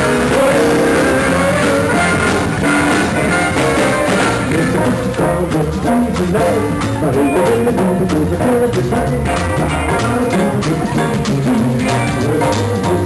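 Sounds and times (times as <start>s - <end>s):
congas: 0.0s - 13.0s
drum kit beat: 0.0s - 13.0s
latin dance band playing: 0.0s - 13.0s.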